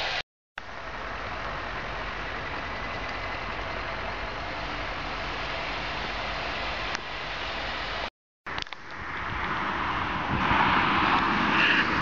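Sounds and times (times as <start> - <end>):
engine running: 0.0 - 10.4
rushing noise: 0.0 - 12.0.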